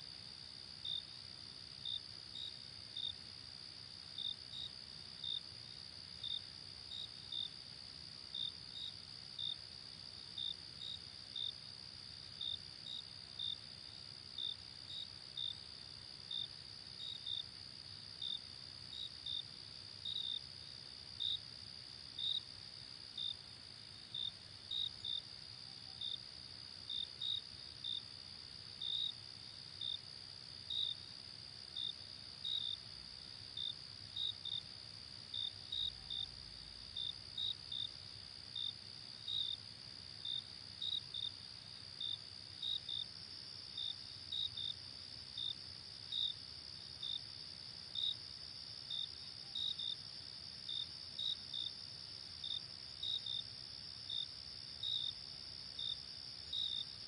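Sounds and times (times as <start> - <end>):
insect chirps: 0.0 - 57.0.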